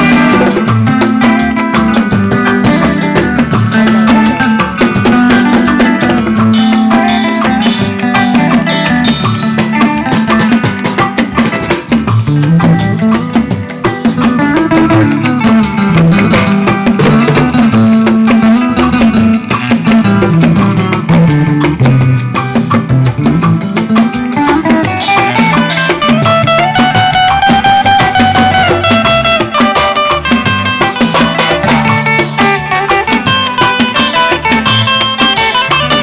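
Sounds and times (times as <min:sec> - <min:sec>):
bass line: 0:00.0 - 0:23.8, 0:24.7 - 0:35.2
drum kit: 0:00.0 - 0:36.0
electric guitar: 0:00.0 - 0:36.0.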